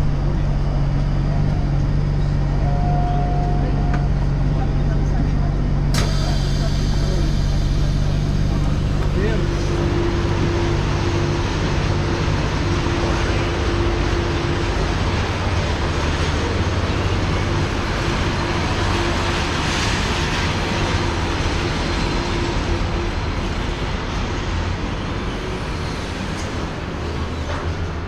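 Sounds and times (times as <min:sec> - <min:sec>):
constant tone: 0:00.0 - 0:25.0
idling engines and machinery drone: 0:00.0 - 0:28.0.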